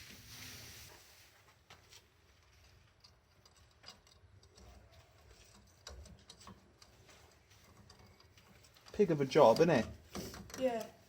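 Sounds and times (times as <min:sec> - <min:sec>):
faint clicks and taps of tools: 0:01.4 - 0:11.0.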